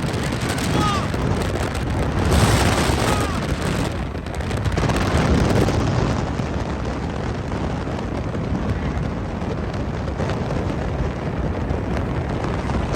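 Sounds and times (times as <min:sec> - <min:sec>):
wind buffeting: 0:00.0 - 0:12.9.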